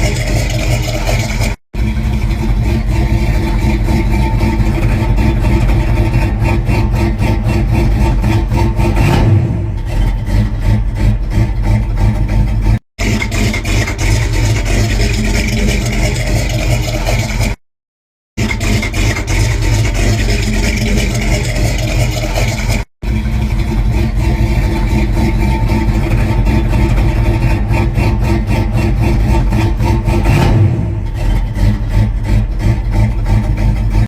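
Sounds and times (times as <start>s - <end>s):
engine running and revving: 0.0s - 17.6s, 18.3s - 34.0s.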